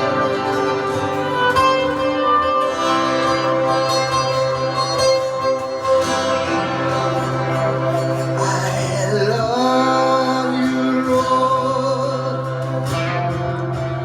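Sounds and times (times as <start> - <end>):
instrumental worship music: 0.0 - 14.0.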